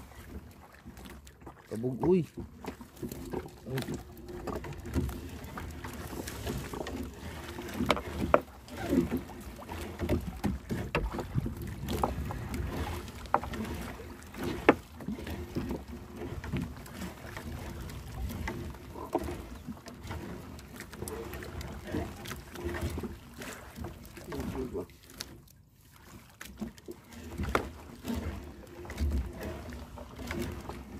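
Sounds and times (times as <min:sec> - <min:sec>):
knocks and clicks against hull: 0:00.0 - 0:30.9
water sounds: 0:00.0 - 0:30.9.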